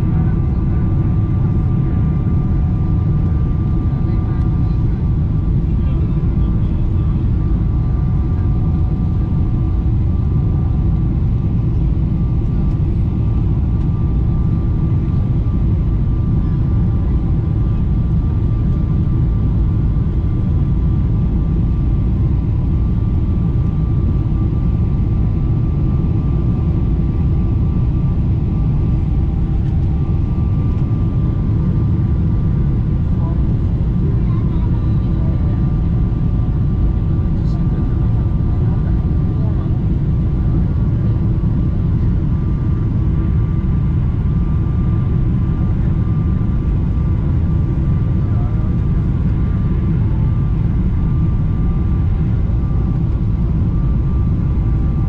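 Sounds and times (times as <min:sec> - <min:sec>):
deep jet engine rumble: 0:00.0 - 0:55.0.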